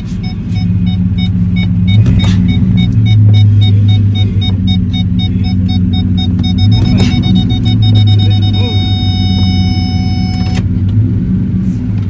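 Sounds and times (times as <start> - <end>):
vehicle engine rumbling: 0.0 - 12.0
fast repeating beep: 0.2 - 10.6.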